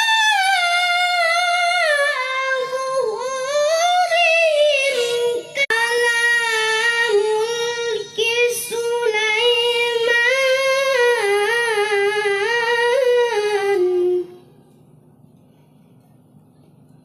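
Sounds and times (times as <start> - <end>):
child reciting melodically: 0.0 - 14.4.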